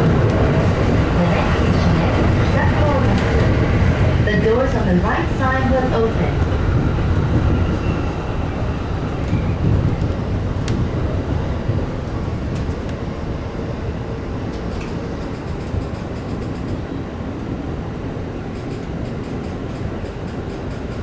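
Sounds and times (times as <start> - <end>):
electric train rumbling on rails: 0.0 - 21.0.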